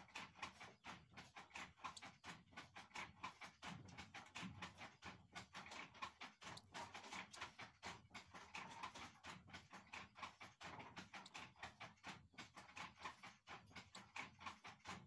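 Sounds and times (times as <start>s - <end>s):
rapid faint clicking and tapping: 0.0s - 15.0s.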